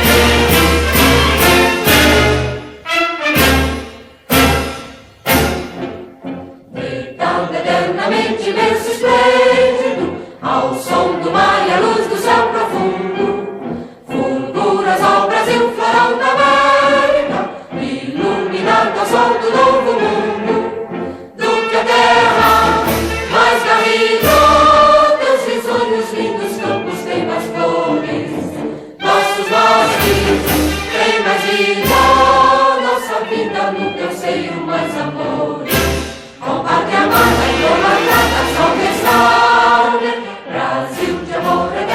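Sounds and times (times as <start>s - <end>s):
choir singing: 0.0s - 41.9s
orchestra playing: 0.0s - 41.9s.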